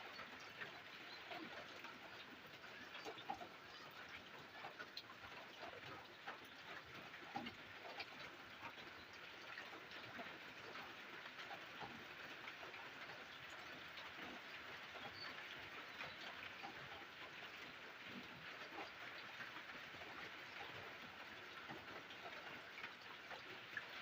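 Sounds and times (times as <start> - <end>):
raindrops ticking: 0.0 - 24.0.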